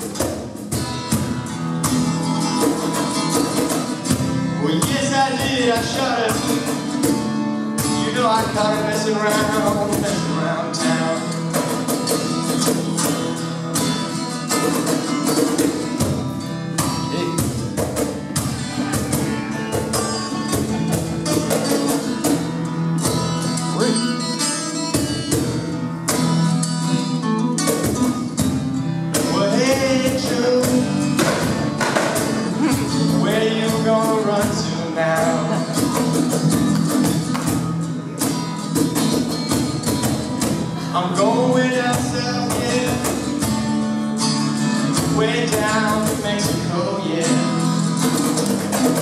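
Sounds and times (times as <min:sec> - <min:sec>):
acoustic guitar strumming: 0:00.0 - 0:49.0
cajon beat: 0:00.0 - 0:49.0.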